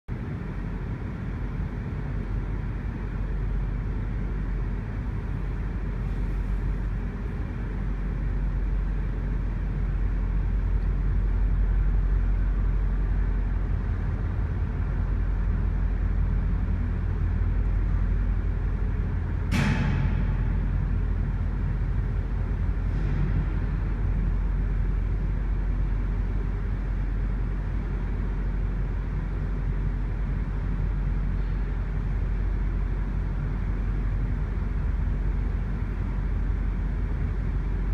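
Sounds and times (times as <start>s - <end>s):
diesel train engine rumble: 0.1s - 37.9s.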